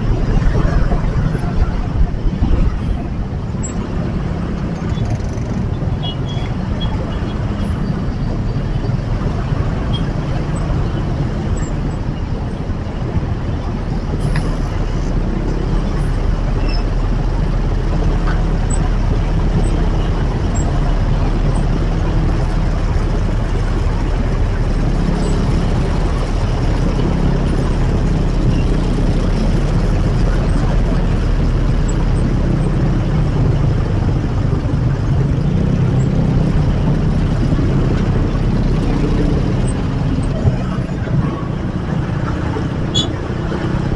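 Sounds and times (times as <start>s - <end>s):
heavy city traffic: 0.0s - 43.9s
motorcycle and bus engines: 0.0s - 43.9s.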